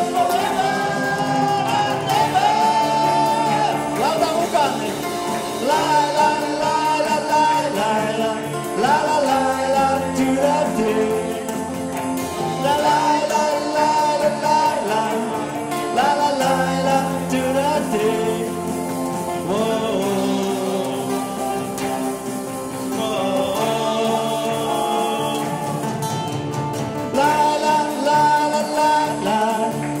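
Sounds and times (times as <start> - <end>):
instrumental accompaniment: 0.0 - 30.0
voices singing: 0.0 - 30.0.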